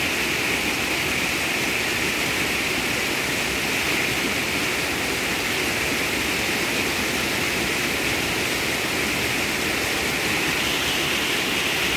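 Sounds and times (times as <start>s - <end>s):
creek rushing over boulders: 0.0s - 11.9s.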